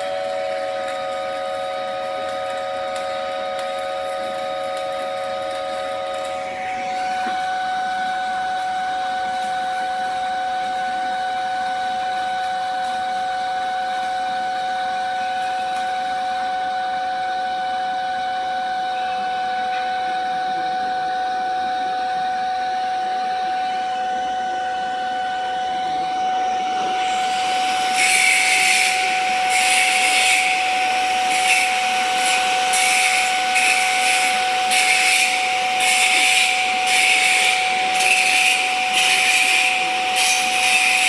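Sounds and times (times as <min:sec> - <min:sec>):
steady hum: 0:00.0 - 0:41.0
welding arc crackling: 0:00.0 - 0:41.0.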